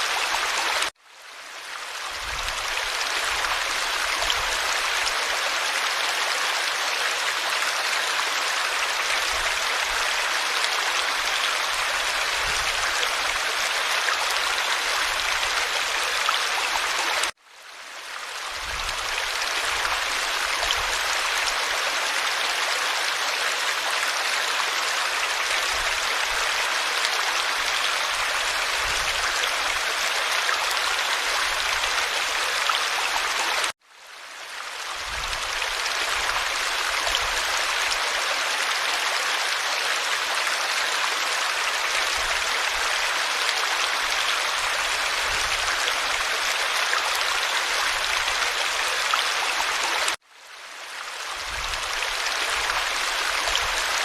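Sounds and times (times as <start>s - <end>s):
forest stream babbling: 0.0s - 54.0s.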